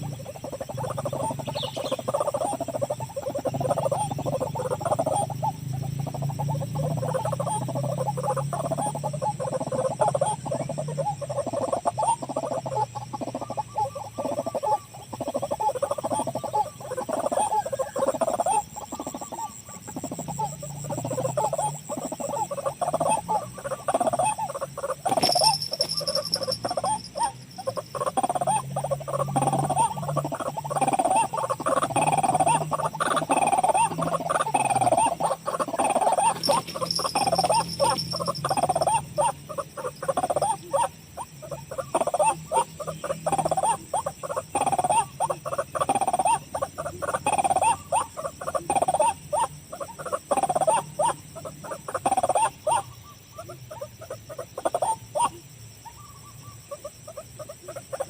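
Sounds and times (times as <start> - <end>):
waterhen croaking calls: 0.0 - 58.0.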